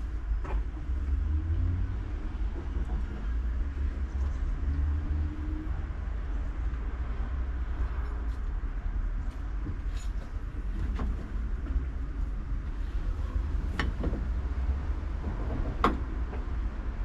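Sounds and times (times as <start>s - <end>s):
electric tram rumbling on track: 0.0s - 17.0s.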